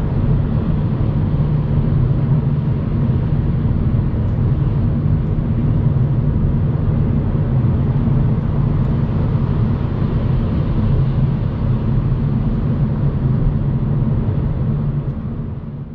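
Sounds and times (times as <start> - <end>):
car road noise at speed: 0.0 - 15.9.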